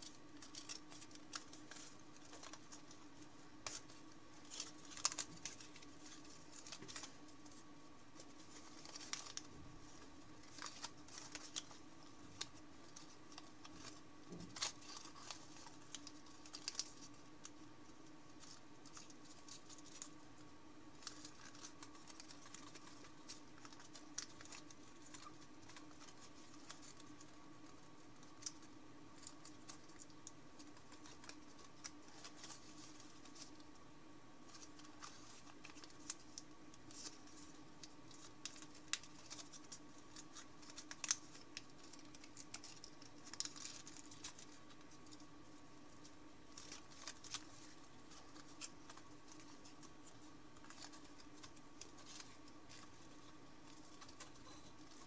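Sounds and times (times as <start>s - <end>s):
faint steady hum: 0.0s - 55.0s
paper crinkling: 0.0s - 55.0s.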